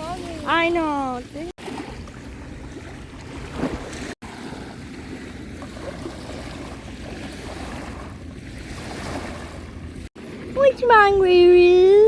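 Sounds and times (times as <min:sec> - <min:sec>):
surf at shoreline: 0:00.0 - 0:12.0.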